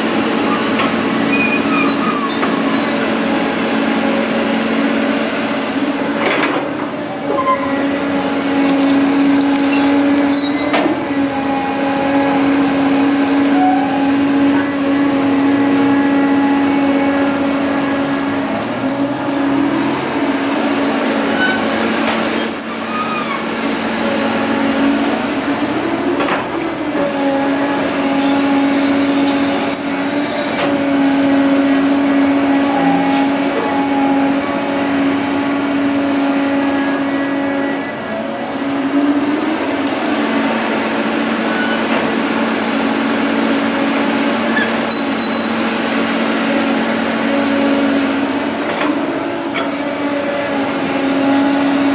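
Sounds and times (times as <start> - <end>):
heavy diesel machinery engine drone: 0.0 - 51.9.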